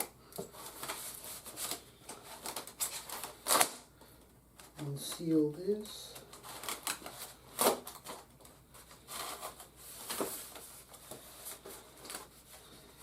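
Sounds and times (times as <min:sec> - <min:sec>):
cardboard packaging rustling: 0:00.0 - 0:03.8, 0:04.6 - 0:13.0.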